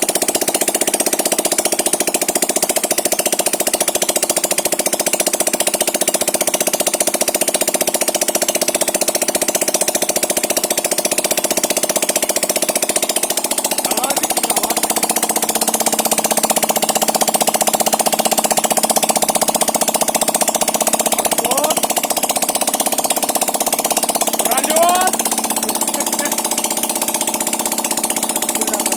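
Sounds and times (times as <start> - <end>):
scooter engine idling: 0.0 - 28.9.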